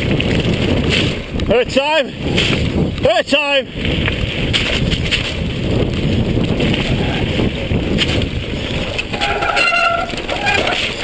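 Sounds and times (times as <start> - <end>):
bike rattling: 0.0 - 11.0
bike tyres rumbling over stones: 0.0 - 11.0
wind buffeting microphone: 0.0 - 11.0.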